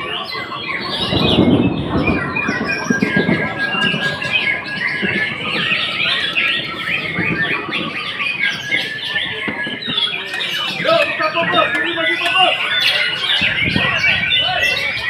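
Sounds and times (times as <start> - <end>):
birds singing whistles and trills: 0.0 - 15.0.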